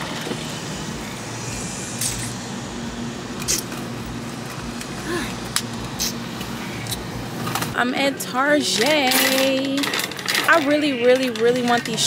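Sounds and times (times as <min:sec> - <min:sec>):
idling car hum: 0:00.0 - 0:12.0.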